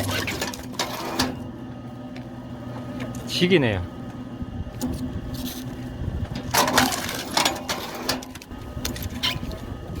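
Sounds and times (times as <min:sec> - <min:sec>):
log splitter motor running: 0:00.0 - 0:10.0.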